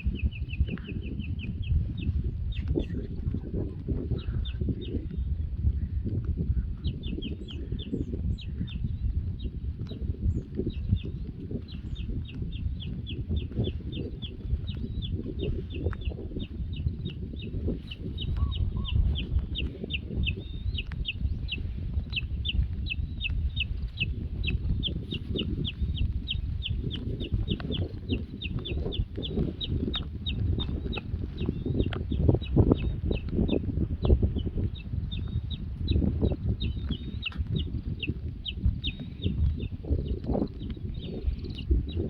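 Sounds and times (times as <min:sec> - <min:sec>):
wind on microphone: 0:00.0 - 0:42.0.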